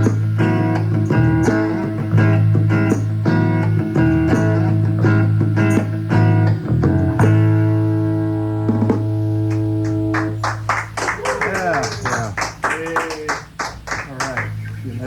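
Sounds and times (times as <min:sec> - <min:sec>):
acoustic guitar strumming: 0:00.0 - 0:12.6
bass guitar: 0:00.0 - 0:12.7.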